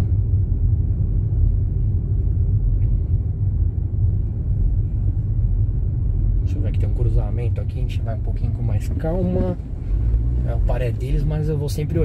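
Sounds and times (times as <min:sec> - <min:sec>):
car engine and tyre noise: 0:00.0 - 0:12.0.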